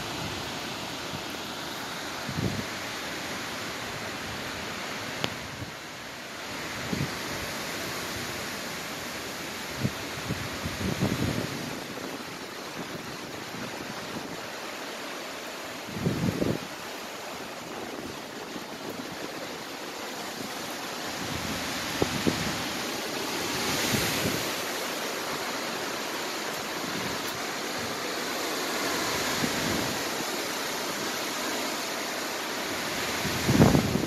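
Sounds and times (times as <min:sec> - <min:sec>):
wind and heavy rain: 0:00.0 - 0:34.0.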